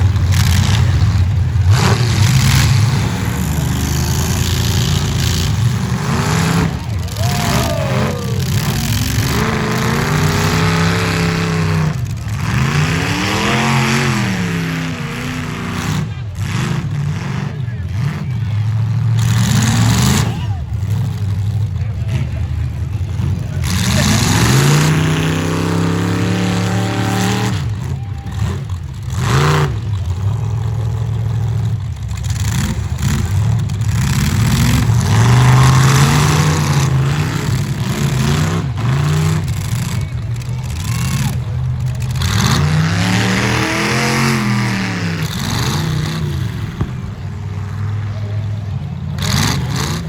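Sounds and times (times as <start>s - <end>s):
car engines revving hard: 0.0s - 50.0s.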